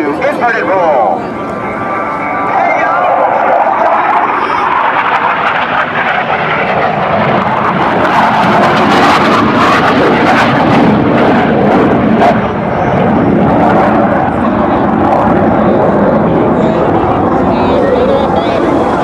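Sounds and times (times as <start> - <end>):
fighter jets flying: 0.0 - 19.0.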